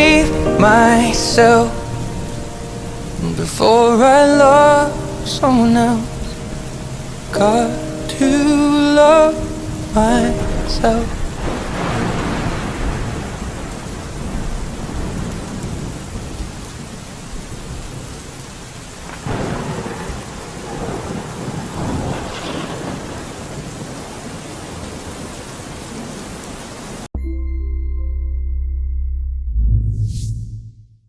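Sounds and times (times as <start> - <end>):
thunder rolling: 0.0 - 18.2, 19.0 - 26.1
steady rain: 0.0 - 27.1.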